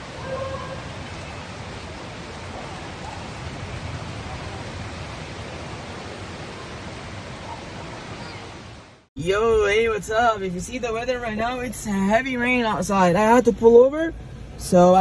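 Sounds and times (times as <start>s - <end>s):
heavy rain rushing: 0.0s - 12.8s.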